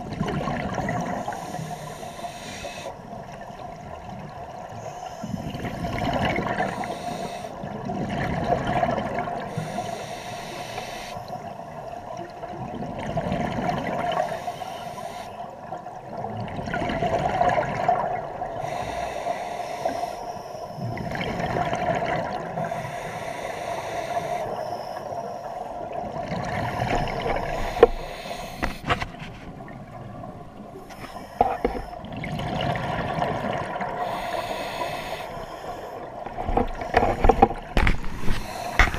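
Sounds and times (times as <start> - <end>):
exhaled bubbles from regulator: 0.0 - 11.4, 12.2 - 18.8, 19.8 - 23.1, 25.6 - 38.9.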